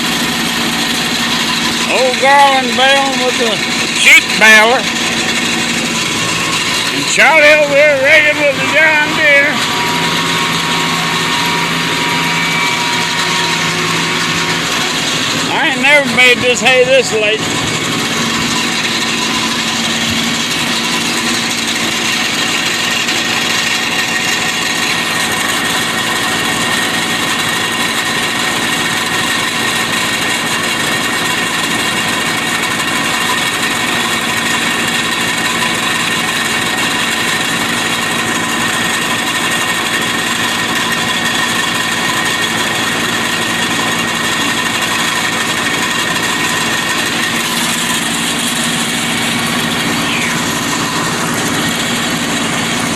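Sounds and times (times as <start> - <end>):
constant high whine: 0.0 - 52.9
tractor engine running: 0.0 - 52.9.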